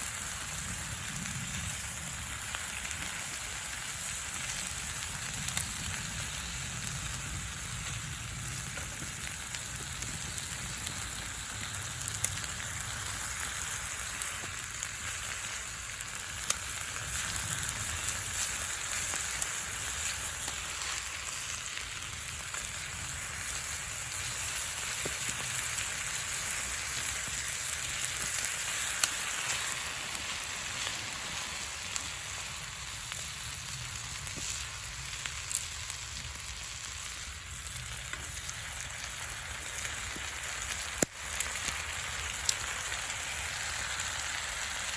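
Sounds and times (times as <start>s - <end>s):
food sizzling in a pan: 0.0s - 44.9s
campfire pops: 0.1s - 44.4s.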